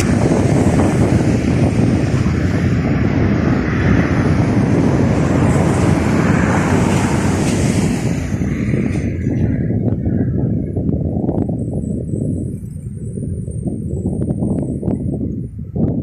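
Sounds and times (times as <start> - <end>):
jet engine roar: 0.0 - 15.0
wind buffeting microphone: 0.0 - 16.0.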